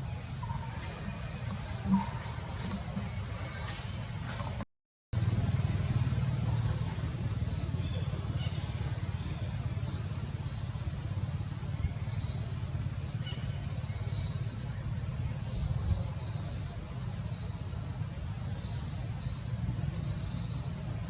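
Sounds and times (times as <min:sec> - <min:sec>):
birds chirping: 0:00.0 - 0:04.6, 0:05.2 - 0:21.0.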